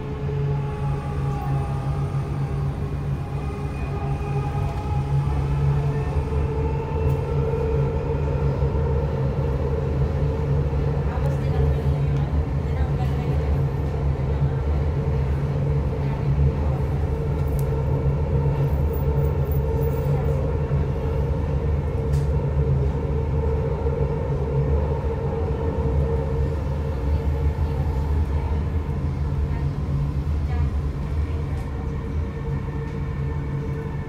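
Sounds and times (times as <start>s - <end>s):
constant hum: 0.0s - 34.0s
train rumbling on track: 0.0s - 34.0s.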